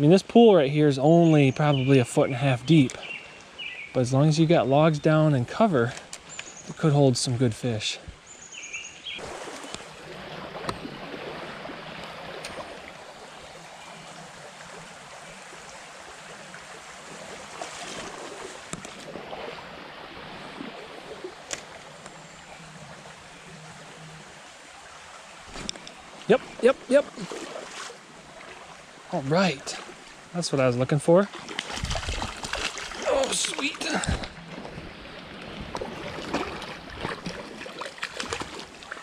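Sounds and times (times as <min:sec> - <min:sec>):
creek water running: 0:00.0 - 0:39.0.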